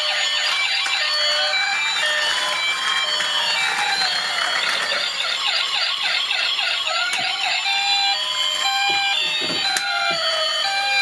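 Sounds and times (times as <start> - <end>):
toy electronic siren: 0.0 - 11.0.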